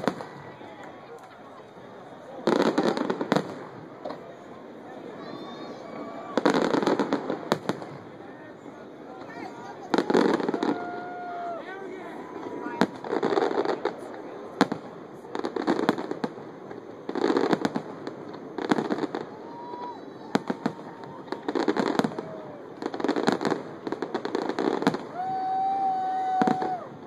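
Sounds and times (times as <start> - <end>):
crackling firework bursts: 0.0 - 27.0.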